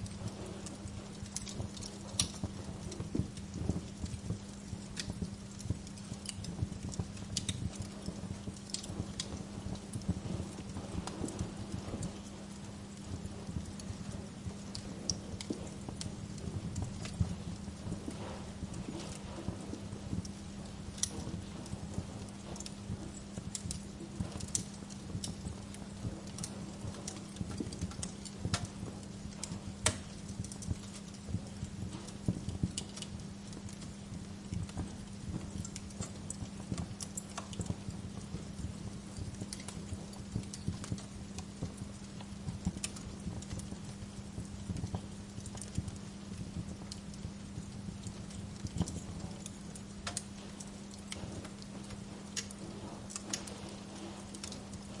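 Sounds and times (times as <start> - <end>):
fire popping and snapping: 0.0 - 55.0
low steady hum: 0.0 - 55.0
wood fire crackling: 0.0 - 55.0.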